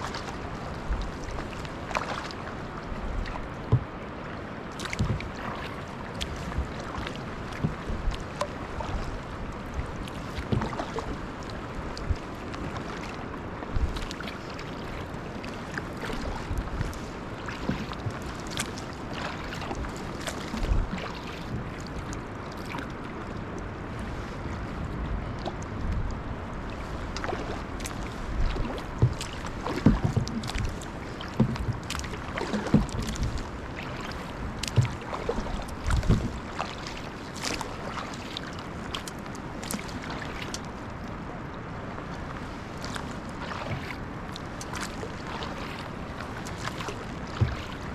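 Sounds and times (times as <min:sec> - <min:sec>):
paddle splashes and knocks: 0:00.0 - 0:47.9
water noise: 0:00.0 - 0:47.9.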